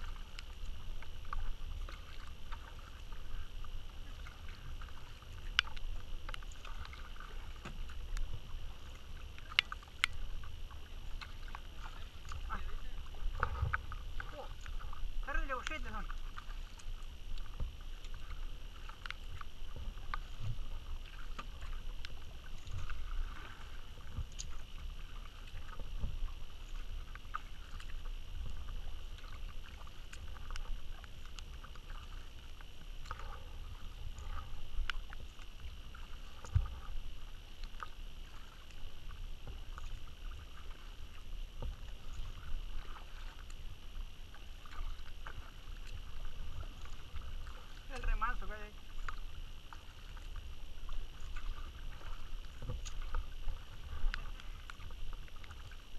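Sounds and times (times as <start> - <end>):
faint high hum: 0.0 - 55.9
low rumble: 0.0 - 55.9
paddle splashes and drips: 0.0 - 55.9.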